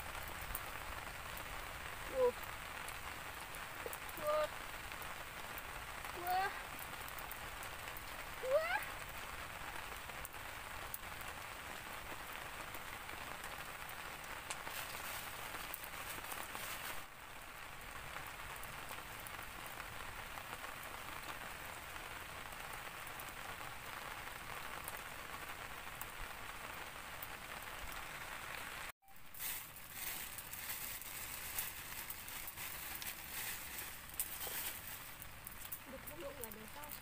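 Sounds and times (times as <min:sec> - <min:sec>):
campfire crackling: 0:00.0 - 0:37.0
steady rain falling: 0:00.0 - 0:37.0.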